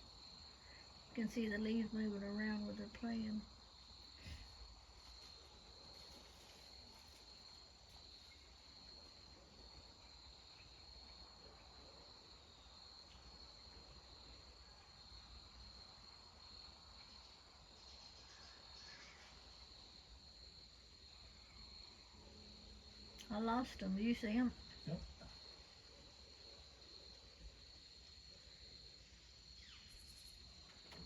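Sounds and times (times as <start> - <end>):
insect chorus trilling: 0.0 - 31.0.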